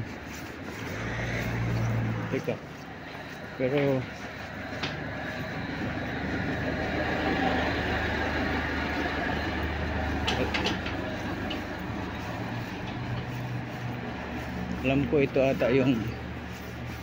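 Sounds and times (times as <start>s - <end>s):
van engine driving past: 0.0s - 17.0s.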